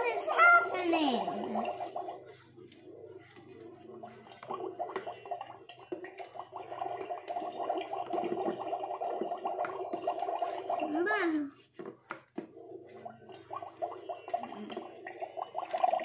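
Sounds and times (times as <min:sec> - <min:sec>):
toy cauldron bubbling: 0:00.0 - 0:16.0.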